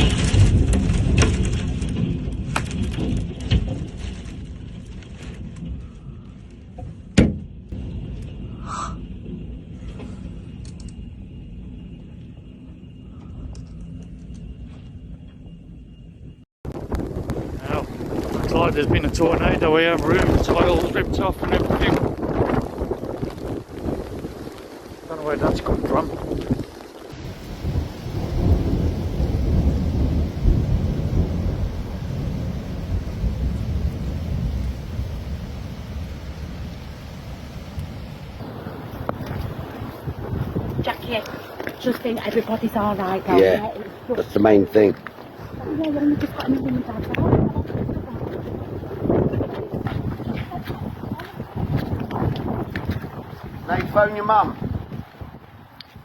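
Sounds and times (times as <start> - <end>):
storm wind buffeting microphone: 0.0 - 56.0.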